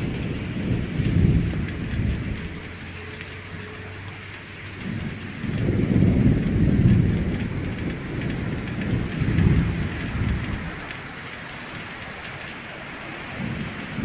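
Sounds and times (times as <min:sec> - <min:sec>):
rain hissing: 0:00.0 - 0:14.0
thunder rolling: 0:00.0 - 0:14.0.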